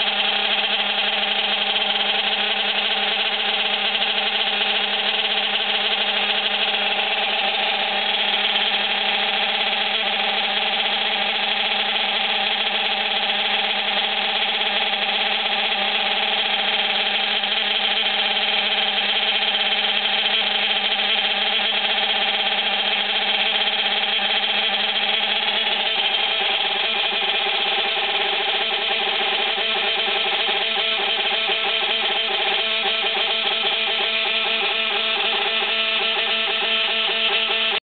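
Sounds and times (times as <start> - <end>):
multi-tone gear whine: 0.0 - 37.8
small engine idling: 0.0 - 37.8.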